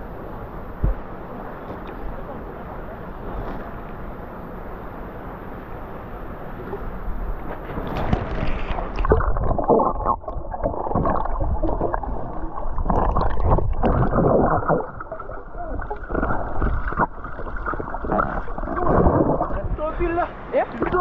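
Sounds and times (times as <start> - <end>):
muffled water splashing: 0.0 - 21.0.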